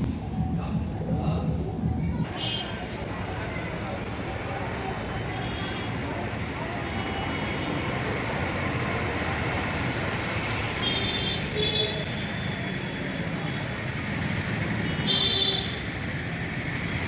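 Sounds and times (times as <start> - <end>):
traffic and street noise: 0.0 - 17.0.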